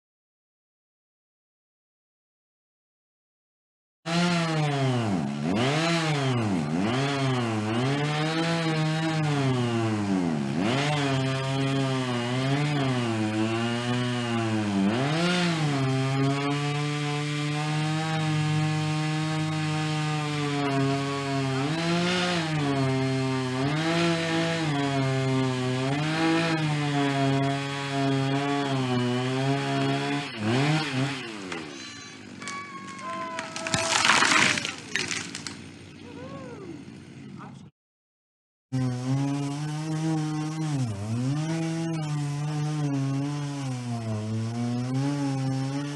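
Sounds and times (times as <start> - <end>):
chainsaw cutting wood: 4.1 - 36.0, 38.8 - 45.9.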